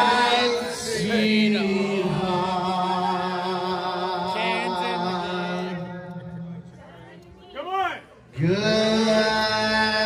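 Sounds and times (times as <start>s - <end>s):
people singing together: 0.0s - 7.2s, 8.4s - 10.0s.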